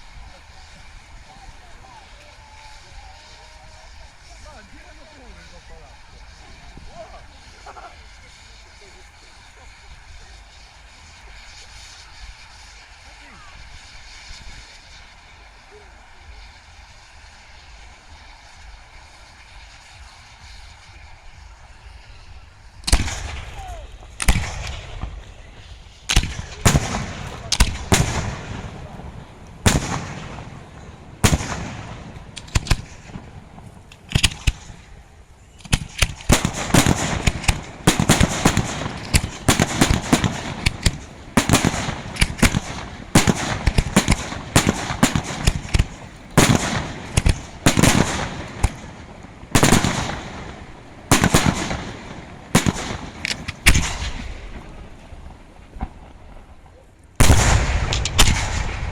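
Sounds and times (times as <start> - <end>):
firework shell bursts: 0.0 - 58.9
fireworks barrage crackling: 0.0 - 58.9.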